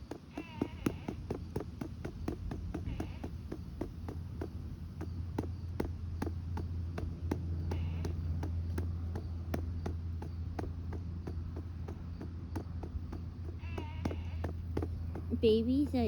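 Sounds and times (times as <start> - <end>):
constant low hum: 0.0 - 16.0
hand patting doll's back: 0.0 - 16.0.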